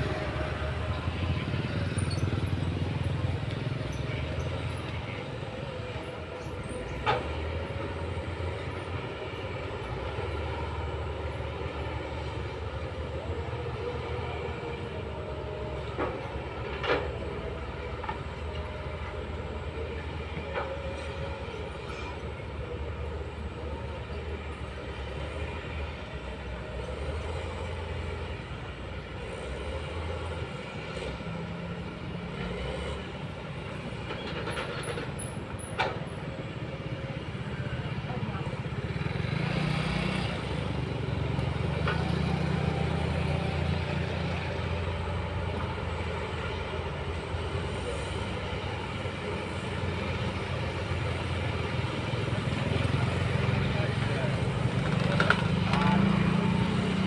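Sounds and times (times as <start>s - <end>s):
distant diesel engines droning: 0.0s - 57.0s.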